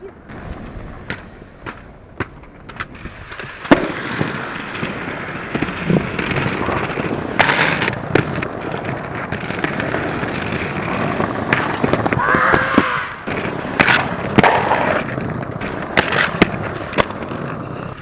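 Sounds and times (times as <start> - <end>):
skateboard wheels rolling on pavement: 0.0 - 18.0
sharp skateboard clack: 0.3 - 18.0.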